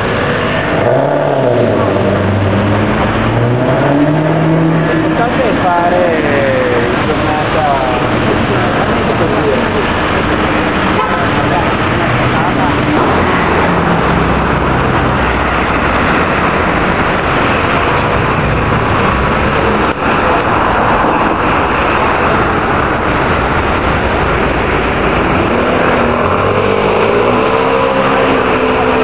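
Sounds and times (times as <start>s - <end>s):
engine revving: 0.0s - 29.0s
sports car engines running: 0.0s - 29.0s.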